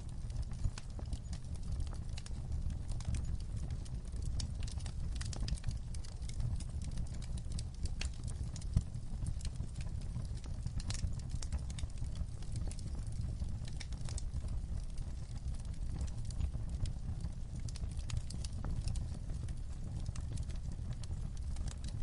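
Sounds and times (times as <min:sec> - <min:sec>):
fire crackling: 0:00.0 - 0:22.0
fire pops and snaps: 0:00.0 - 0:22.0.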